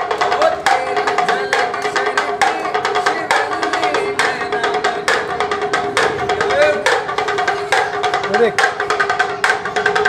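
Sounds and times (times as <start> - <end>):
sharp drum strikes: 0.0 - 10.0.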